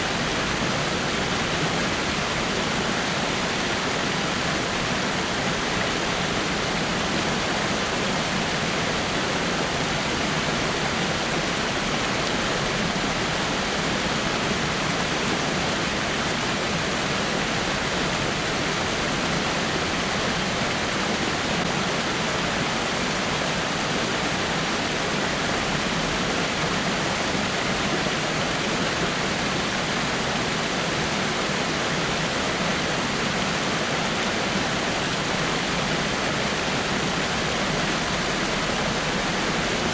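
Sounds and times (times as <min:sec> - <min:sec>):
waterfall pouring over rocks: 0:00.0 - 0:39.9.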